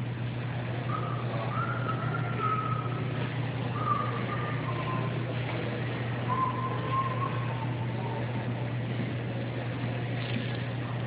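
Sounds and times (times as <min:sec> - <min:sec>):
steady low hum: 0:00.0 - 0:11.0
street traffic noise: 0:00.0 - 0:11.0.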